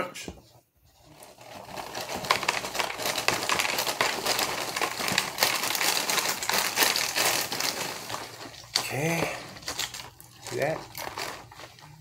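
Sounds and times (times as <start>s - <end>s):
plastic bag crinkling: 0.8s - 12.0s
cereal rattling into plastic bowl: 1.1s - 12.0s.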